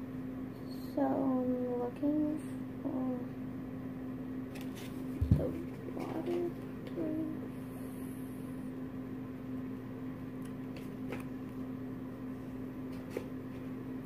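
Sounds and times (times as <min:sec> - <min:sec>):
ceiling fan humming: 0:00.0 - 0:14.0.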